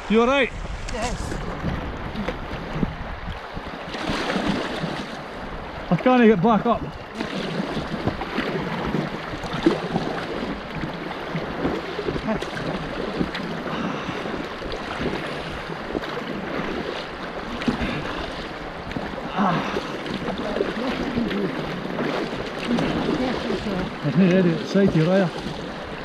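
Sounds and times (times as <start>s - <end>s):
river water rushing: 0.0s - 26.0s
splashes knocking against kayak: 0.9s - 26.0s.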